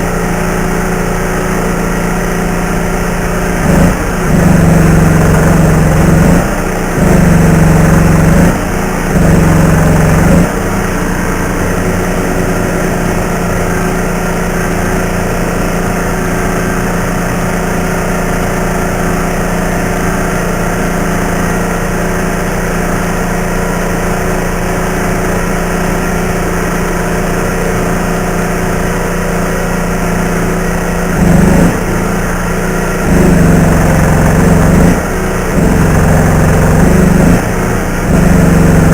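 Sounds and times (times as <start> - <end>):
welding arc buzzing: 0.0 - 38.9
welding machine hum: 0.0 - 38.9.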